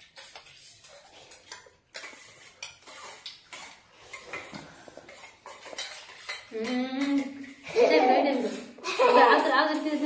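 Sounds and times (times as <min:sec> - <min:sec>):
spoons clinking on steel plates: 0:00.0 - 0:10.0.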